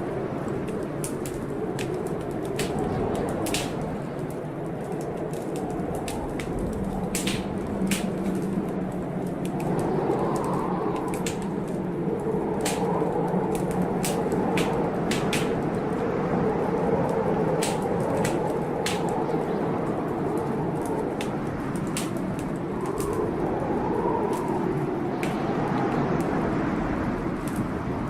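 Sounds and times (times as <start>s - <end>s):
blizzard wind blowing: 0.0s - 28.0s
wood fire crackling: 0.0s - 28.0s.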